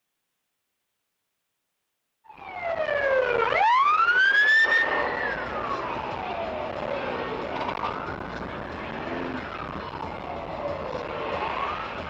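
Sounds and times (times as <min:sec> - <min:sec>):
emergency vehicle siren wailing: 0:02.3 - 0:12.0
steady background noise: 0:02.3 - 0:12.0.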